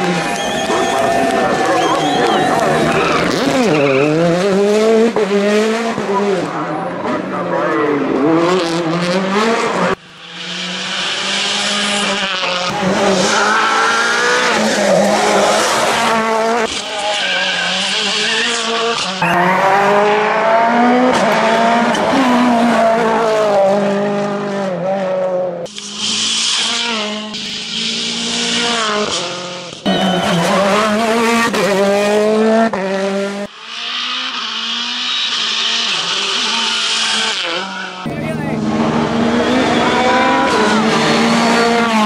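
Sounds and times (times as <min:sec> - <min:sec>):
rally car engines revving: 0:00.0 - 0:42.0.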